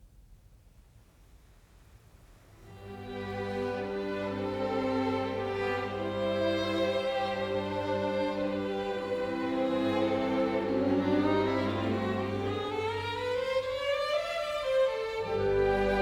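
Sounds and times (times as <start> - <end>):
bowed strings music: 2.7 - 16.0.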